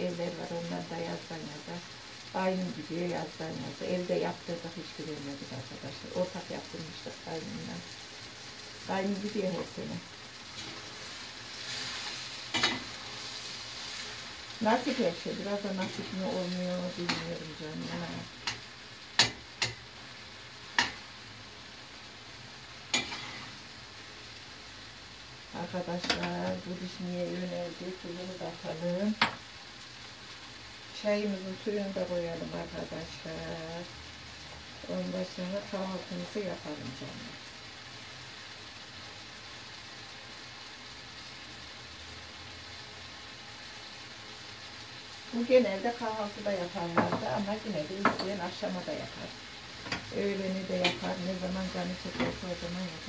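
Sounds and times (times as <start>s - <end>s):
vegetables sizzling in oil: 0.0s - 53.0s.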